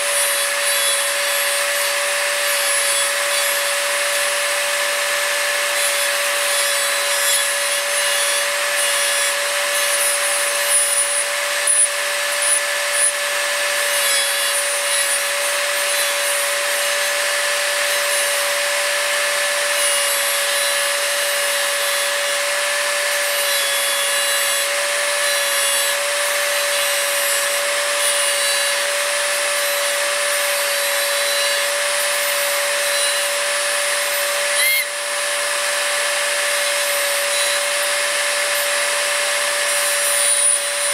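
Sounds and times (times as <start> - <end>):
rotary tool grinding steel: 0.0 - 40.9.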